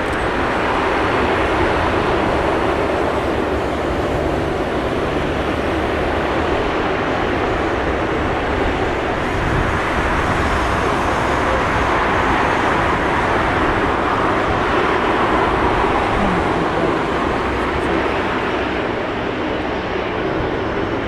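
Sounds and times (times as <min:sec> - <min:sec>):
turboprop airliner taking off: 0:00.0 - 0:21.0.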